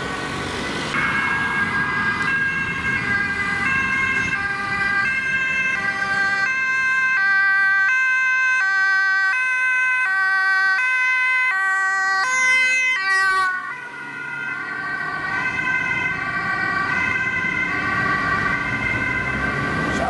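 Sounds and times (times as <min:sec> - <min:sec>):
ambulance two-tone siren: 0:00.0 - 0:20.0
road noise: 0:00.0 - 0:20.0.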